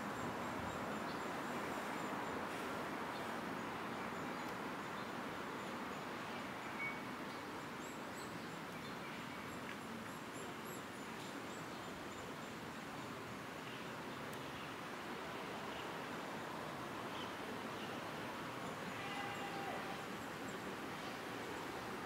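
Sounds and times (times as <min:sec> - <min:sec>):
background noise: 0:00.0 - 0:22.0.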